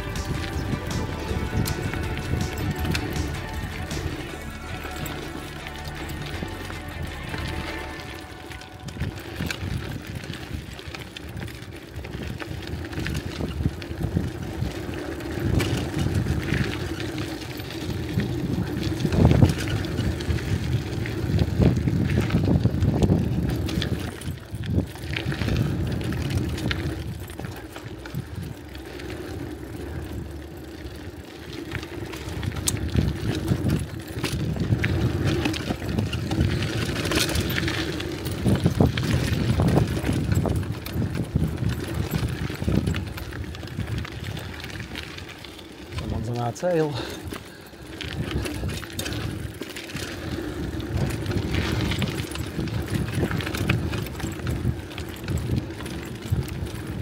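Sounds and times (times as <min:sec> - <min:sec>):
bicycle tyres rumbling: 0:00.0 - 0:57.0
bike clicks and rattles: 0:00.0 - 0:57.0.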